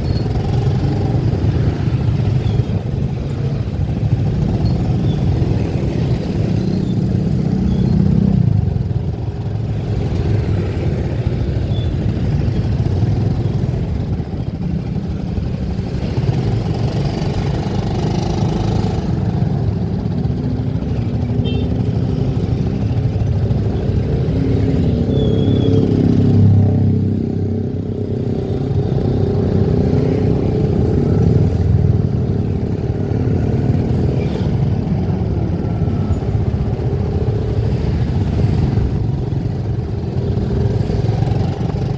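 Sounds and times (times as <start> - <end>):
road noise: 0.0 - 41.9.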